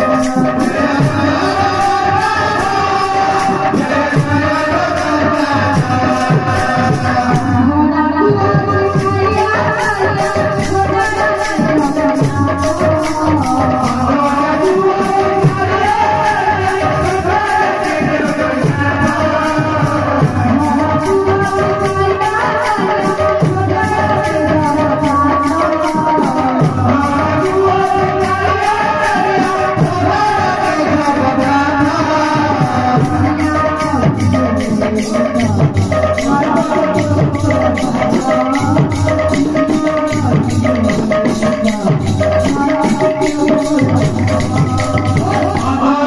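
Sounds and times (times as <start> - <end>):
fast rattling percussion beat: 0.0 - 46.0
woman singing: 0.0 - 46.0.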